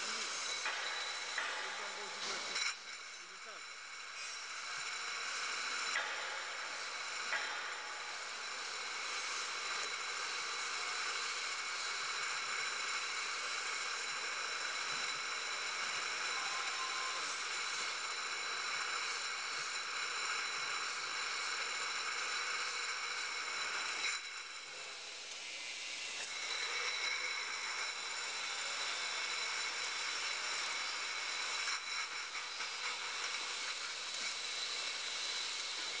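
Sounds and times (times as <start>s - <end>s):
high whining machine tones: 0.0s - 36.0s
hissing machine noise: 0.0s - 36.0s.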